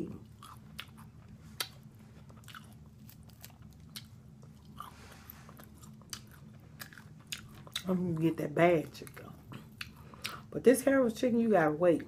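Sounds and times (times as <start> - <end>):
chewing crispy fried food: 0.1 - 10.5.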